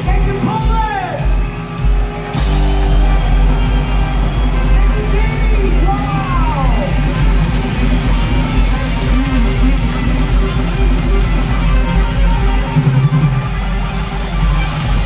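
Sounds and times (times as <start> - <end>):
live rock band playing loud: 0.0 - 15.0.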